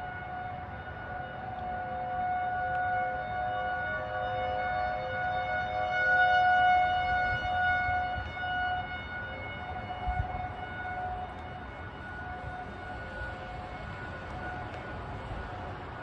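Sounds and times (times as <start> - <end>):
warning siren steady tones: 0.0 - 16.0.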